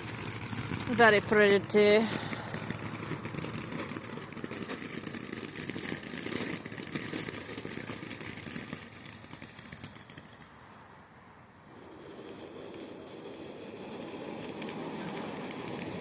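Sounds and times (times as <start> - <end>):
firework hissing and crackling: 0.0 - 16.0.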